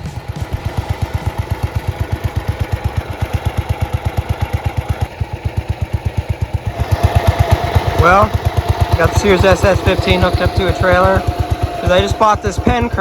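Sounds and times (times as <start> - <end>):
lawn tractor engine idling: 0.0 - 13.0.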